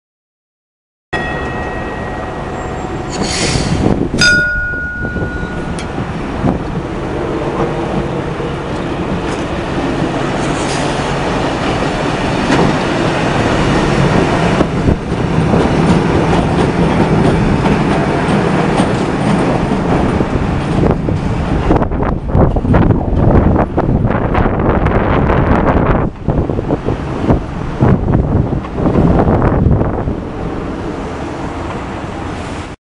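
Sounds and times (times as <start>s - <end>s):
streetcar wheels rumbling on rail: 1.2s - 32.8s.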